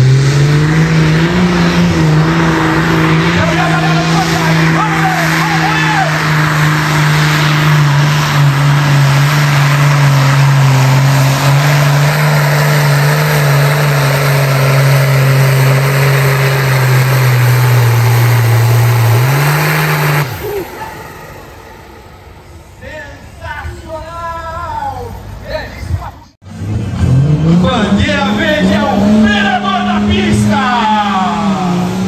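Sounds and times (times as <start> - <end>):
diesel tractor engine at full throttle: 0.0 - 23.3, 26.4 - 32.0.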